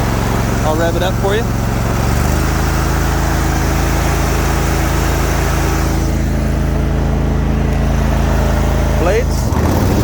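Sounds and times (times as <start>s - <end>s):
mower engine running: 0.0s - 10.0s.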